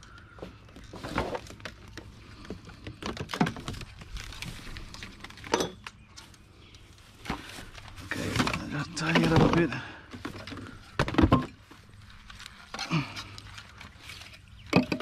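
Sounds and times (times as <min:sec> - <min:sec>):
household junk rustling and clattering: 0:00.4 - 0:06.4, 0:07.1 - 0:15.0.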